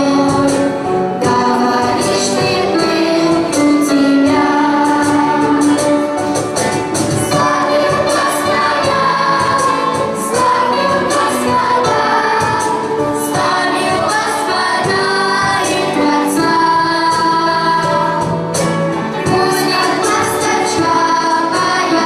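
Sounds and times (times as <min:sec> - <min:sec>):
choir of children and women singing: 0:00.0 - 0:05.9, 0:06.6 - 0:18.5, 0:19.3 - 0:22.0
instrumental accompaniment: 0:00.0 - 0:22.0.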